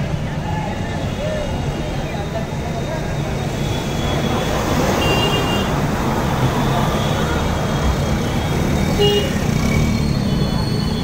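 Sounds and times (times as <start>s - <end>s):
car and motorbike engines: 0.0s - 11.0s.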